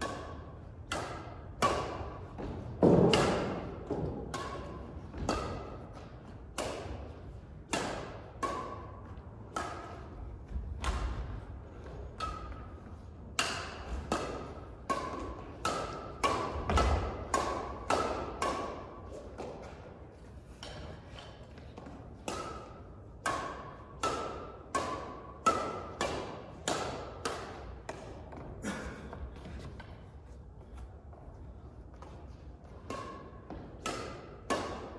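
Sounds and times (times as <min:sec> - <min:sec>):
rackets striking shuttlecock: 0:00.0 - 0:28.6, 0:32.0 - 0:34.9.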